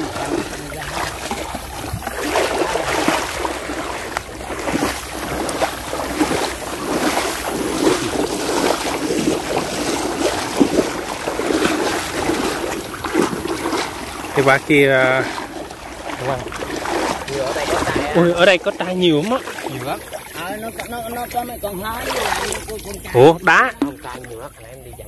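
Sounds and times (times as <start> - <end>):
water splashing as people wade: 0.0 - 25.0.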